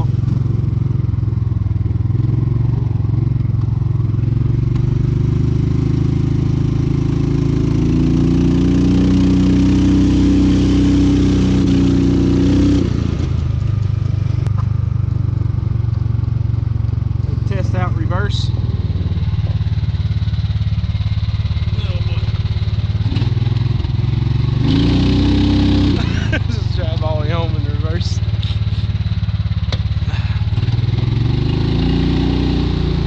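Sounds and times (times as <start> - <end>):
golf cart engine running: 0.0 - 33.0.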